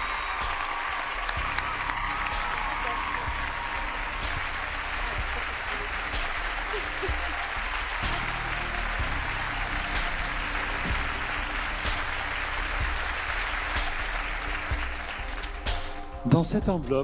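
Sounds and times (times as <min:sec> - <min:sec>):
large audience applauding: 0:00.0 - 0:16.2
background music with low bass: 0:00.0 - 0:17.0.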